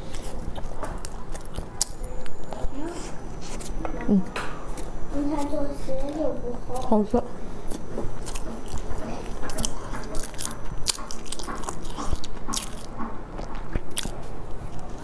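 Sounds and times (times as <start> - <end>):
chewing bread with wet smacks: 0.0 - 2.8, 4.7 - 15.0.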